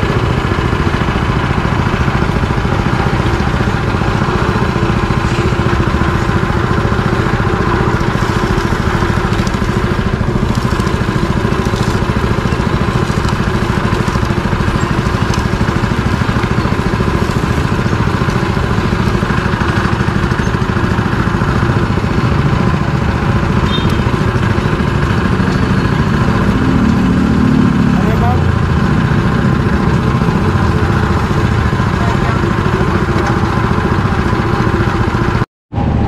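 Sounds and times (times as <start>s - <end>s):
sugarcane juicer machine hum: 0.0s - 36.0s.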